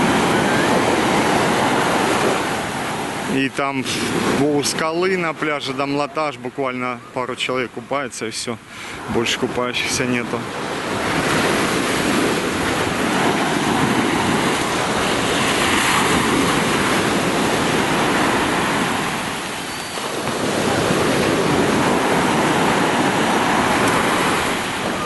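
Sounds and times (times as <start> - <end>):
sea surf washing onto beach: 0.0 - 25.0.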